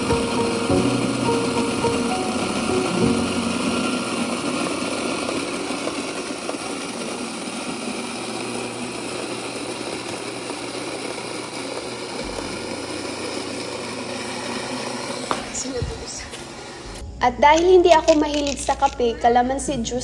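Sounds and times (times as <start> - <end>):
electric coffee grinder running: 0.0 - 16.8.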